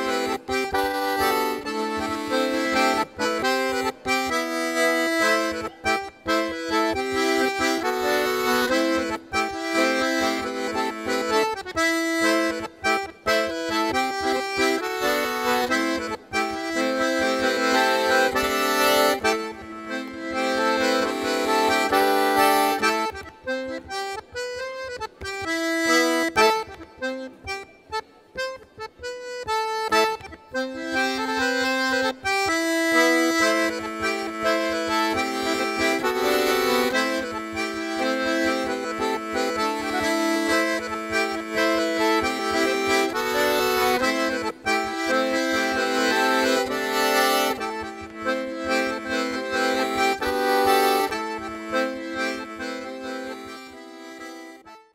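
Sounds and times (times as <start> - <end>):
accordion folk dance music: 0.0 - 54.9.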